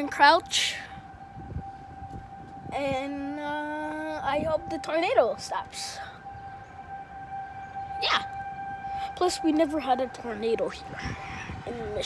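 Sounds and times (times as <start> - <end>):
tornado warning siren: 0.0 - 12.0.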